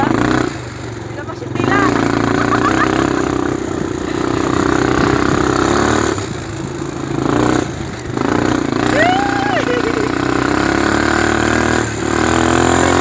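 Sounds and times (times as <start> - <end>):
off-road vehicle engine: 0.0 - 13.0.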